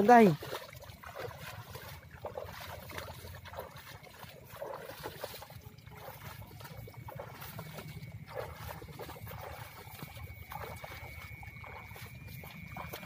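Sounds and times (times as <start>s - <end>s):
wading through shallow water: 0.0s - 13.0s.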